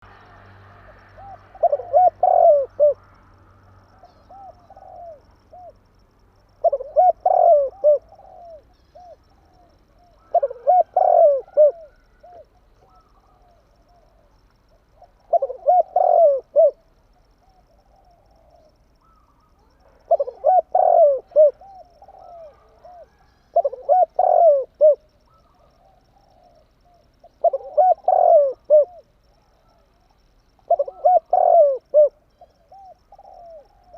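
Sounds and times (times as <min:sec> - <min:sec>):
dove cooing: 0:00.8 - 0:03.2, 0:03.9 - 0:05.9, 0:06.5 - 0:33.9.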